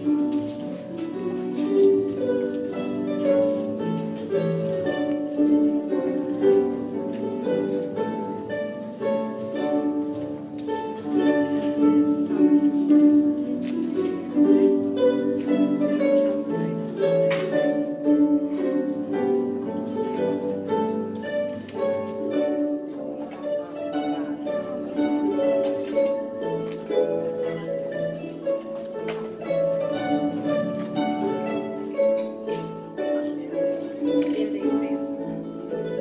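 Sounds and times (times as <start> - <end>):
harps playing plucked notes: 0.0 - 36.0.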